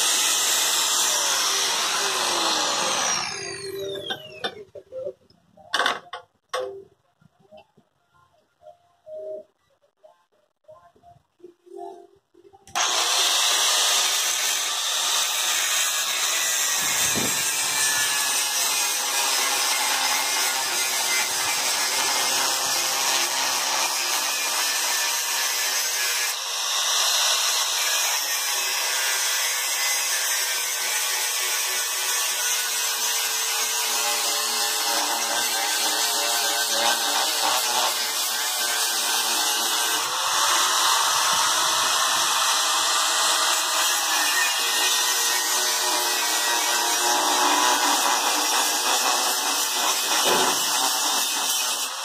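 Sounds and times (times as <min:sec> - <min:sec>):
angle grinder cutting metal: 0:00.0 - 0:04.6, 0:12.7 - 0:52.0.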